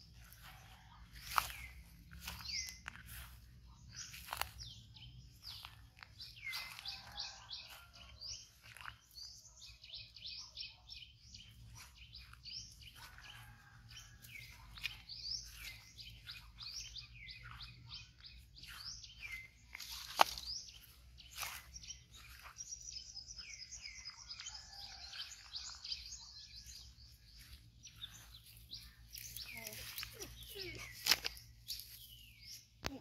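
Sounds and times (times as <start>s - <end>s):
footsteps through grass: 0.0s - 10.2s, 11.1s - 33.0s
birds chirping: 0.0s - 33.0s.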